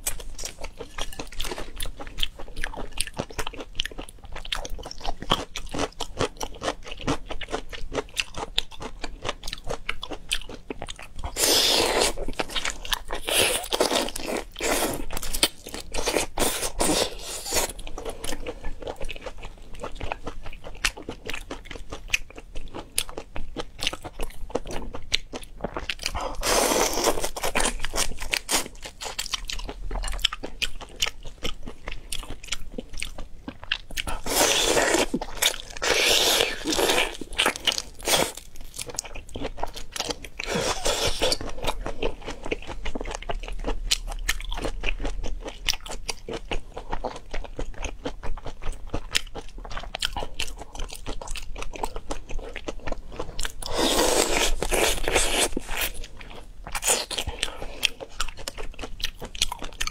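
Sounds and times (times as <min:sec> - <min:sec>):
crunching and wet chewing: 0:00.0 - 0:59.9.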